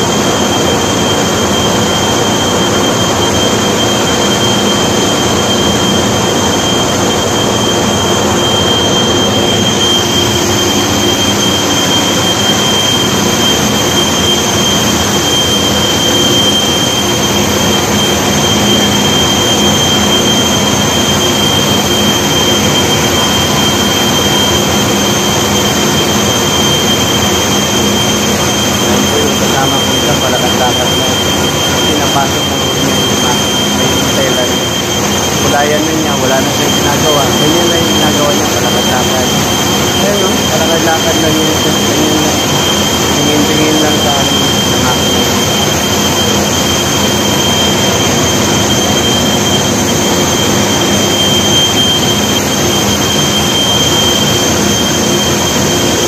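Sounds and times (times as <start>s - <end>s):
machines with high whine and hum: 0.0s - 56.0s.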